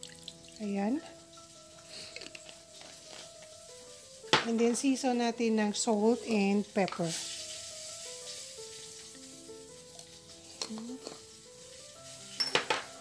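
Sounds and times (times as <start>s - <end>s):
fish sizzling in oil: 0.0s - 13.0s
soft background music: 0.0s - 13.0s.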